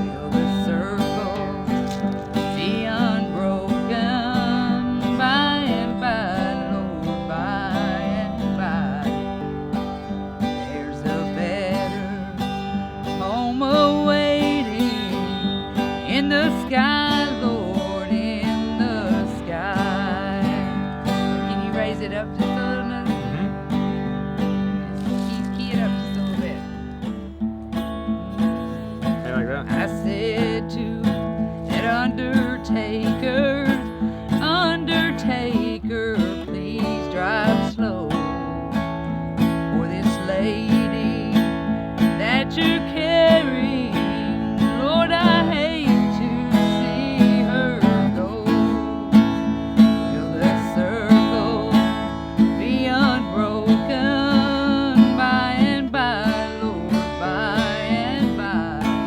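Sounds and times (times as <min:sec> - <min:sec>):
acoustic guitar strumming: 0:00.0 - 0:59.0
woman singing: 0:00.0 - 0:59.0.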